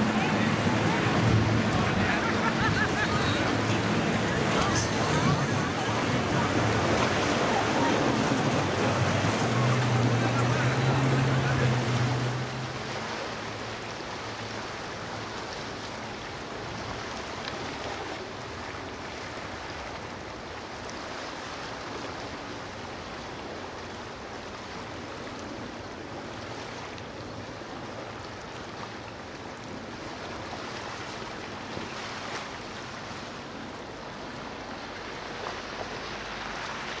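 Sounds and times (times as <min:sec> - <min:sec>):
waves rushing: 0:00.0 - 0:37.0
wind: 0:00.0 - 0:37.0.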